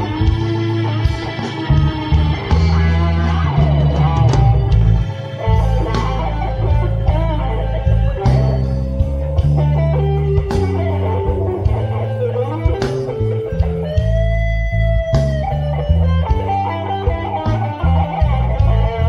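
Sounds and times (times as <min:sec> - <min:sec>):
blues band playing: 0:00.0 - 0:19.0
electric guitar solo: 0:00.0 - 0:19.0.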